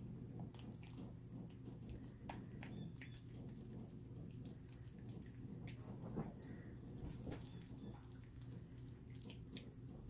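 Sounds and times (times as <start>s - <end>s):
low steady hum: 0.0s - 10.0s
slime squelching in hands: 0.1s - 10.0s.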